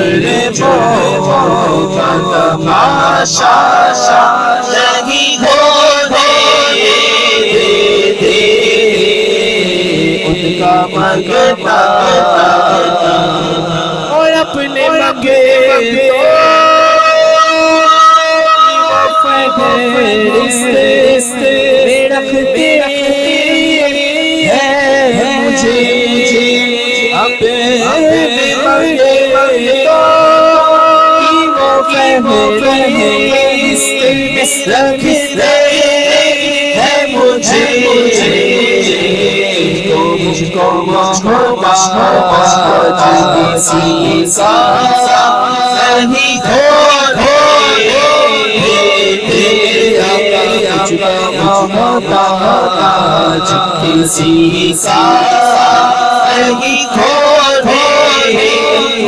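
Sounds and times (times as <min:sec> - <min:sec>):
men singing into microphones: 0:00.0 - 0:59.0.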